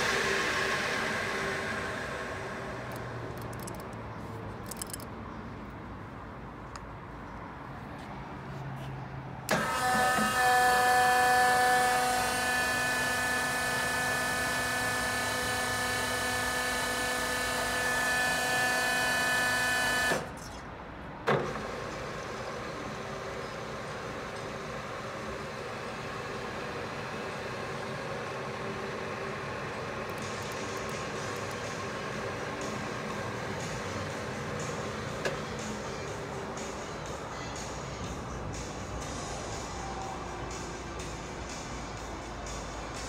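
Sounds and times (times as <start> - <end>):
lathe gear whine: 0.0 - 4.0, 9.5 - 20.6, 21.4 - 43.0
low machine hum: 0.0 - 7.6, 9.5 - 43.0.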